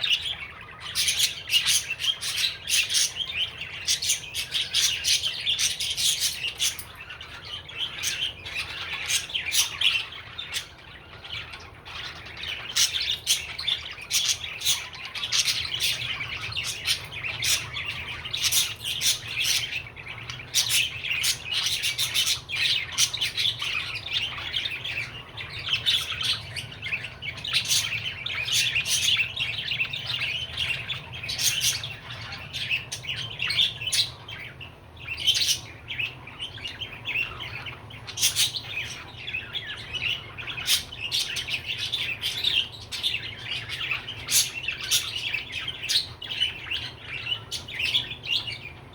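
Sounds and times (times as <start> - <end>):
budgerigar chattering and warbling: 0.0 - 48.8.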